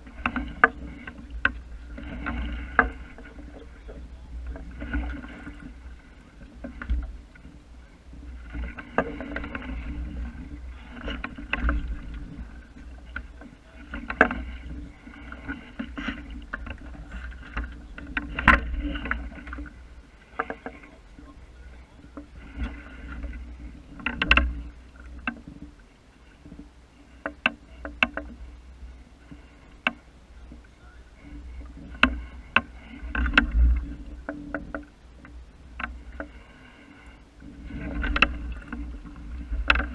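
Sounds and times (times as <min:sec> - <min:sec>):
knocks and clicks from boat gear: 0:00.0 - 0:39.9
steady low rumble: 0:00.0 - 0:39.9
water lapping against boat hull: 0:00.0 - 0:39.9.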